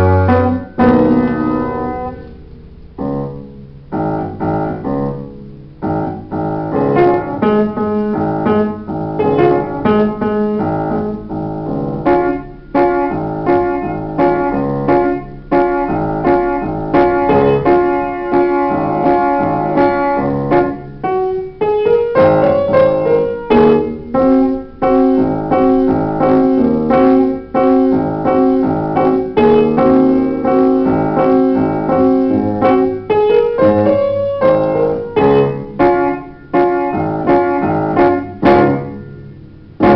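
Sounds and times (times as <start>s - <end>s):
solo upright piano: 0.0s - 39.9s.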